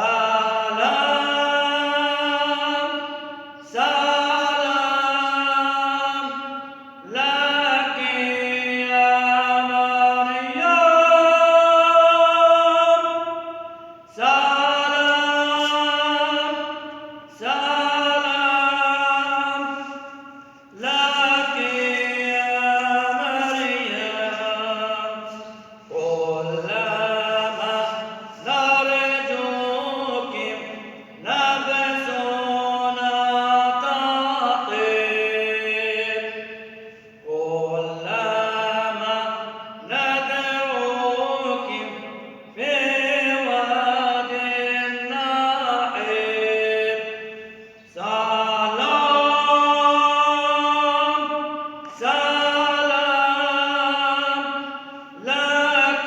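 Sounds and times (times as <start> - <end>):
man chanting a hymn: 0.0 - 56.0.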